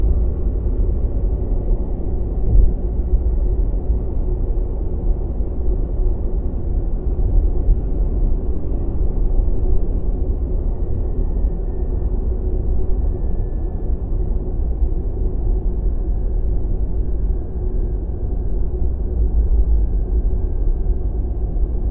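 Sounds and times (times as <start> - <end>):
low tunnel rumble: 0.0 - 21.9.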